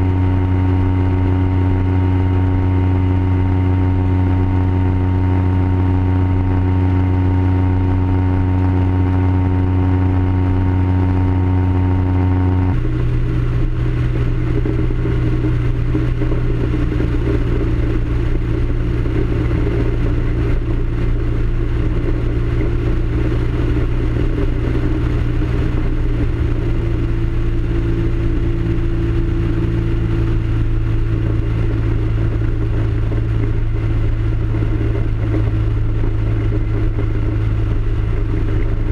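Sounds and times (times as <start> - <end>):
aircraft engine and propeller: 0.0 - 38.9
wind noise: 0.0 - 38.9.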